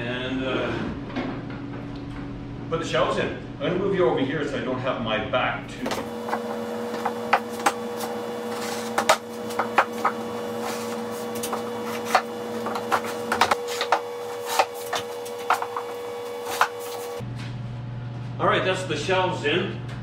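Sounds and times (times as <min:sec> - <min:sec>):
steady hum: 0:00.0 - 0:19.2.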